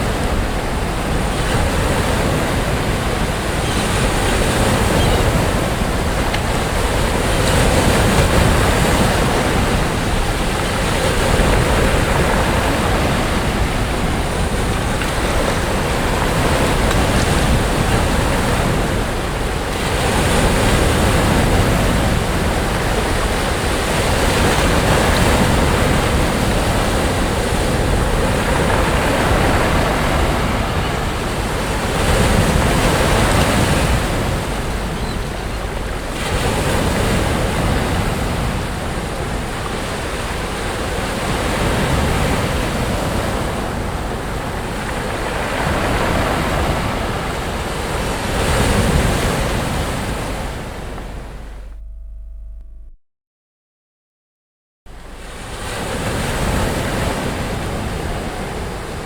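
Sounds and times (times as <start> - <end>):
sea waves breaking on beach: 0.0 - 51.7, 54.9 - 59.0.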